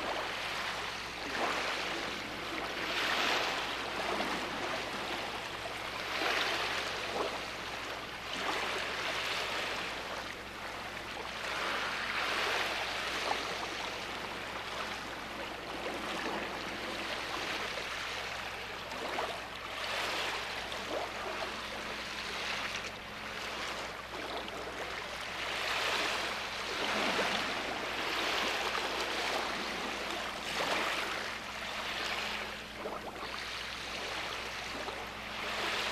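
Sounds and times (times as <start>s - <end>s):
waves washing onto beach: 0.0s - 35.9s.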